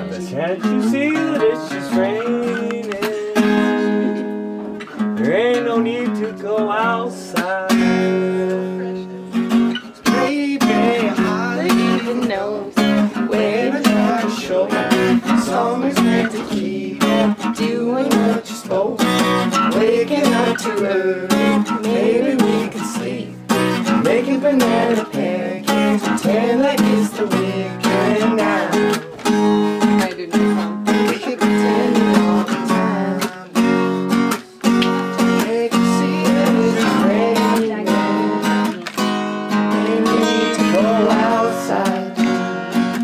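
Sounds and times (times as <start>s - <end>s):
acoustic guitar strumming: 0.0s - 43.0s
person singing: 0.0s - 43.0s.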